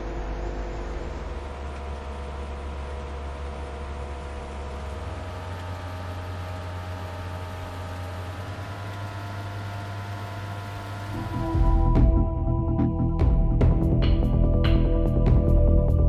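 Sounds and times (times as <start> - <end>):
jet engine droning: 0.0 - 6.7, 8.4 - 16.0.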